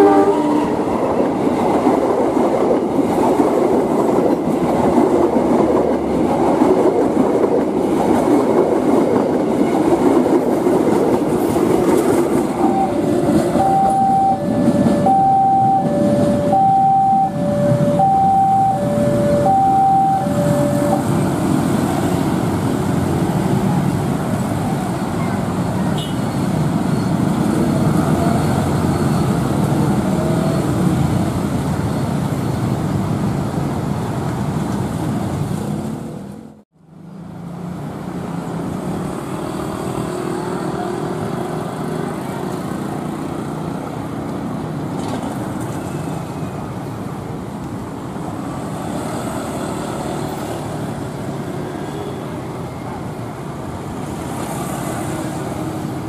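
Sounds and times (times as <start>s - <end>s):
diesel locomotive engine drone: 0.0s - 56.0s
train coaches rumbling: 0.0s - 56.0s.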